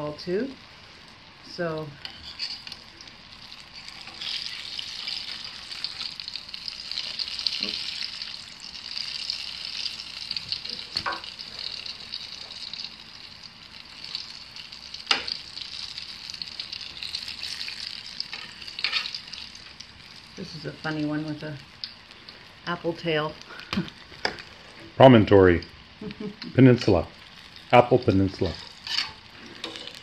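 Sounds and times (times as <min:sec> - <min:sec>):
hot oil sizzling and crackling: 0:00.0 - 0:30.0.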